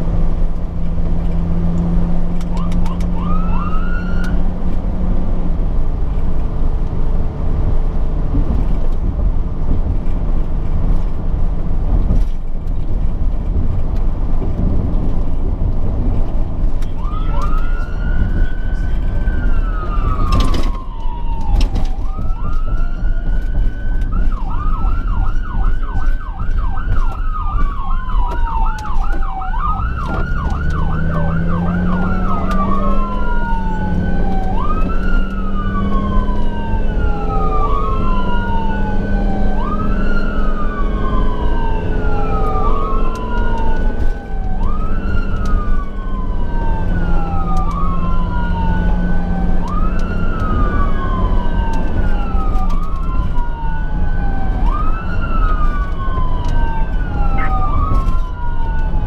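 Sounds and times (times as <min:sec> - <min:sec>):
emergency siren yelp and wail: 0:00.0 - 0:07.1, 0:16.8 - 0:59.0
engine and road noise: 0:00.0 - 0:59.0.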